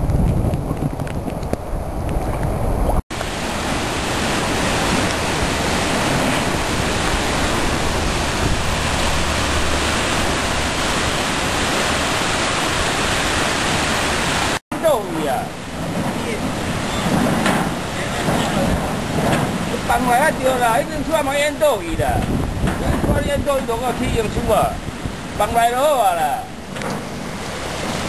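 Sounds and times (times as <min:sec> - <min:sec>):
wind buffeting microphone: 0:00.0 - 0:14.6, 0:15.4 - 0:25.6
rush of floodwater: 0:02.4 - 0:28.0.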